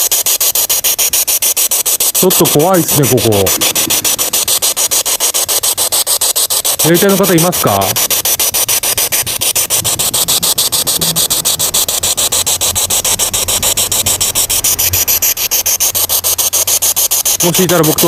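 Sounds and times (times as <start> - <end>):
chopped radio static hiss: 2.0 - 18.0.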